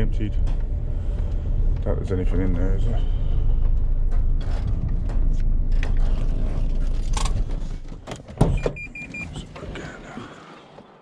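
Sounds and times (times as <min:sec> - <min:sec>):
knocks and rattles: 0:00.0 - 0:09.6
van engine and road rumble: 0:00.0 - 0:10.2.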